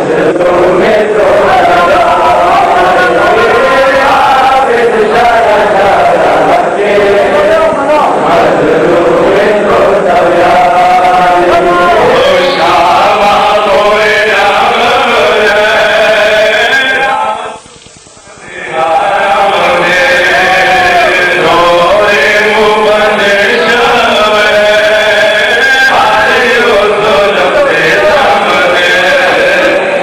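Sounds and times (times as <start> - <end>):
men chanting in unison: 0.0 - 17.6, 18.3 - 30.0.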